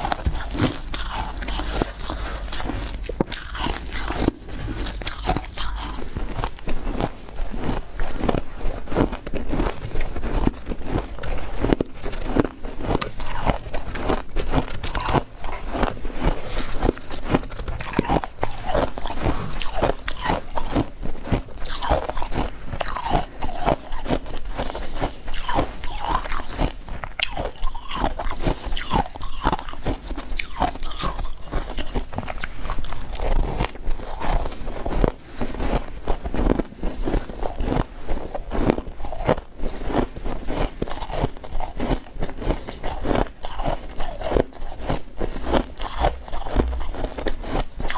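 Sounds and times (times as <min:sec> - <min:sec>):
frost being chewed and crunched: 0:00.0 - 0:47.9.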